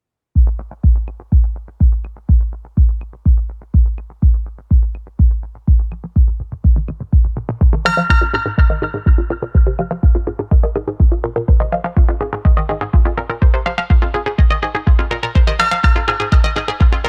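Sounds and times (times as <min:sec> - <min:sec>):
electronic music: 0:00.4 - 0:17.0
heavy kick drum: 0:00.4 - 0:17.0
synth chords: 0:00.4 - 0:17.0.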